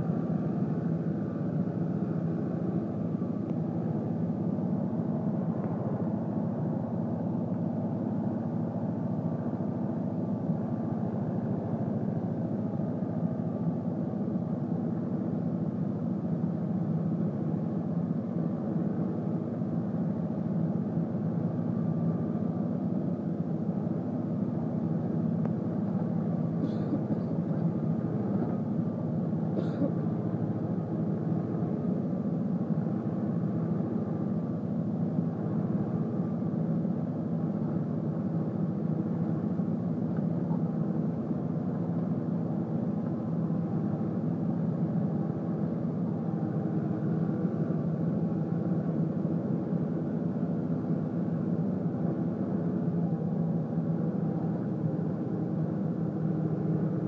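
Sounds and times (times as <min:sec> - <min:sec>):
tractor engine under heavy load: 0:00.0 - 0:57.0.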